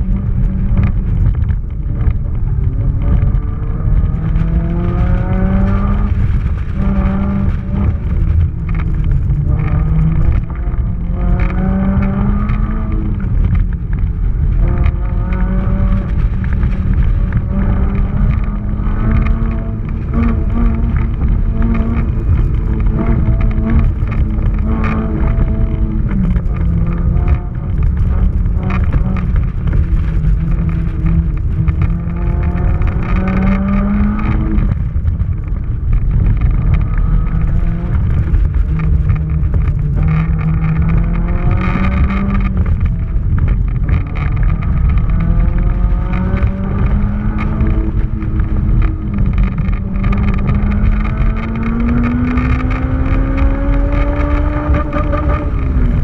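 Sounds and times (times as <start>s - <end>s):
car engine revving hard: 2.9s - 56.0s.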